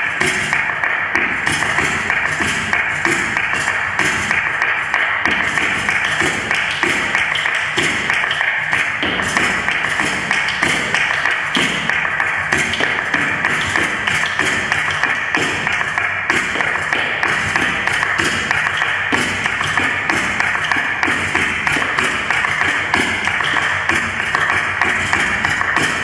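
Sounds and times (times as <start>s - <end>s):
dancer's shoes tapping floor: 0.0s - 26.0s
flamenco music: 0.0s - 26.0s.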